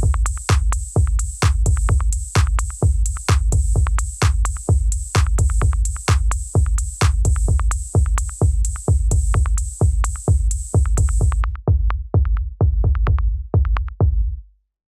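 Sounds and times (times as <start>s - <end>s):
electronic music drum-machine beat: 0.0s - 14.2s.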